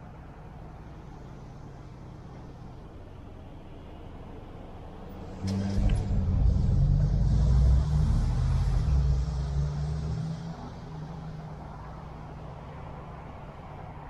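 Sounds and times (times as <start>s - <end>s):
car engine low rumble: 0.0s - 14.0s
road noise from moving car: 0.0s - 14.0s.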